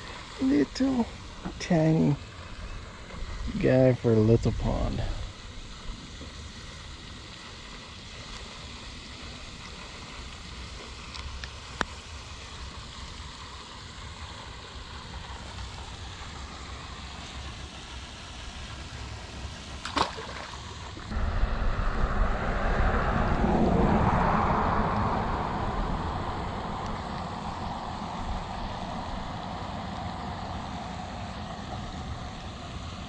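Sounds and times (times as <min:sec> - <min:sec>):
fountain spraying: 0:00.0 - 0:21.2, 0:24.2 - 0:33.0.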